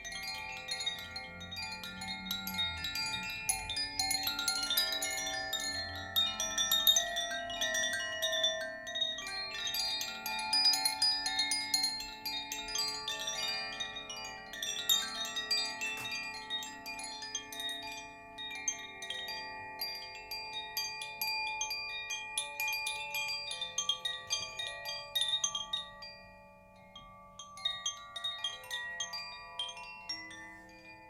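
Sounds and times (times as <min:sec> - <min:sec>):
chimes ringing: 0:00.0 - 0:31.0.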